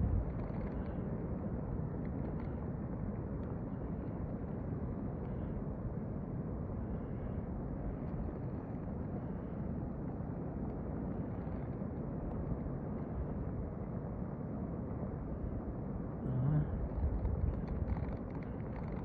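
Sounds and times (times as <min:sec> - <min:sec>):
avalanche low rumble: 0:00.0 - 0:19.0.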